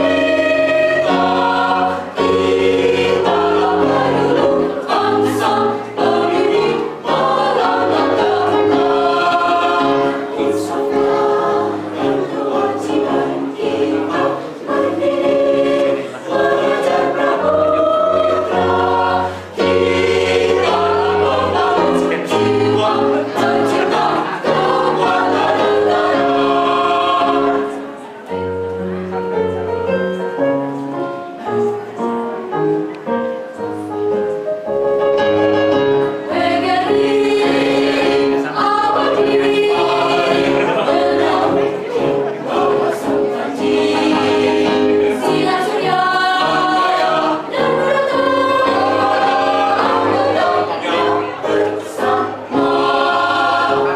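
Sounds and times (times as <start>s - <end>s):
choir singing: 0.0s - 28.6s, 35.4s - 53.9s.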